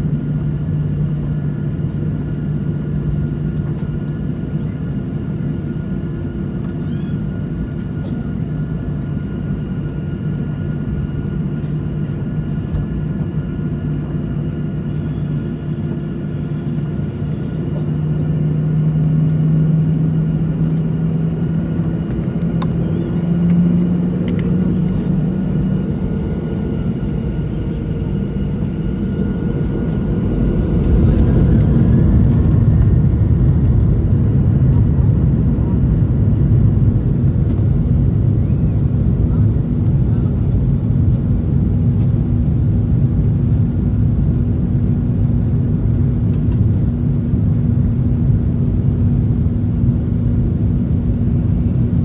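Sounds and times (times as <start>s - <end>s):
jet airliner cabin drone: 0.0s - 52.0s.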